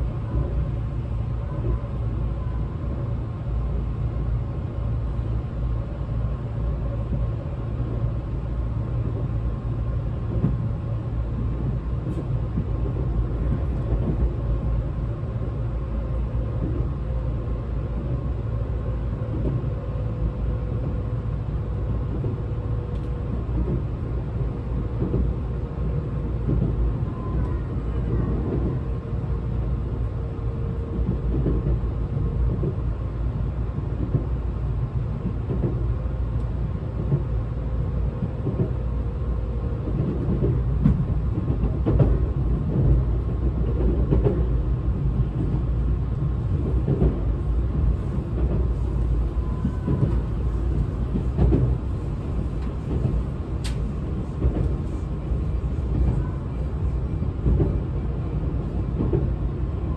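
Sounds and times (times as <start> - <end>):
faint train whine: 0.0 - 59.9
train wheels rumbling on rails: 0.0 - 59.9.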